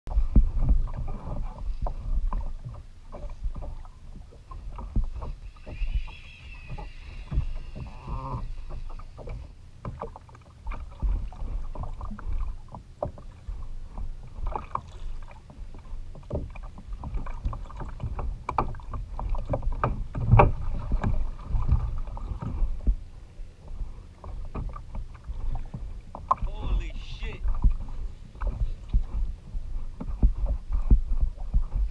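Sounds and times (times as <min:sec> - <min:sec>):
knocks against hull: 0:00.1 - 0:14.9, 0:15.5 - 0:23.0, 0:24.2 - 0:26.8, 0:27.4 - 0:31.9
water splashing against hull: 0:00.1 - 0:31.9.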